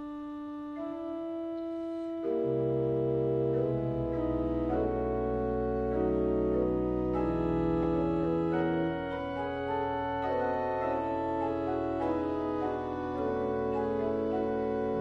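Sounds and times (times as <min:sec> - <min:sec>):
deep organ pedal bass notes: 0:00.0 - 0:15.0
pipe organ sustained chords: 0:00.0 - 0:15.0.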